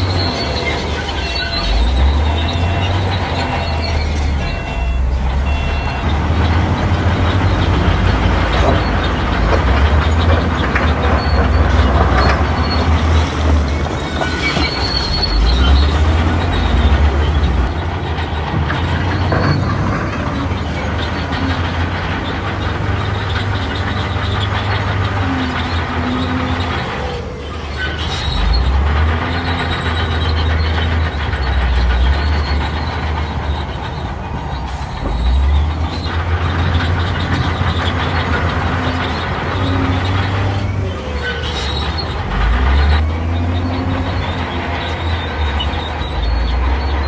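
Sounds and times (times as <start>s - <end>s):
bulldozer diesel engine under load: 0.0s - 47.0s
steel tracks grinding and squealing: 0.0s - 47.0s.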